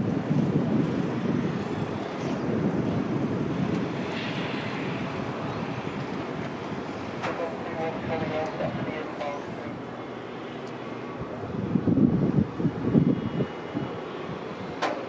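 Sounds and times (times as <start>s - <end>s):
jet airliner engine rumble: 0.0s - 15.0s.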